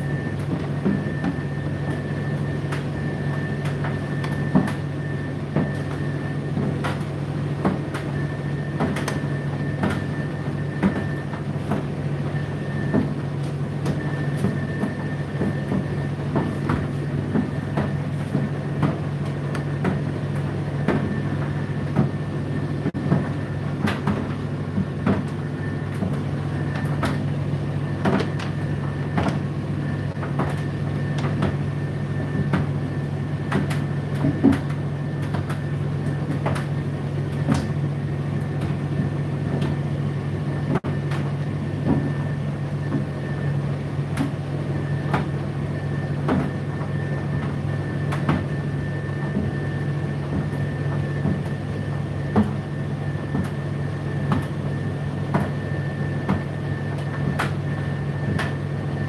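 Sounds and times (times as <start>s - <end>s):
tumble dryer motor hum: 0.0s - 59.0s
dryer drum clicks and knocks: 0.1s - 4.9s, 5.5s - 22.2s, 22.8s - 29.5s, 30.1s - 37.8s, 40.6s - 43.4s, 44.1s - 45.4s, 46.2s - 48.6s, 49.2s - 58.6s.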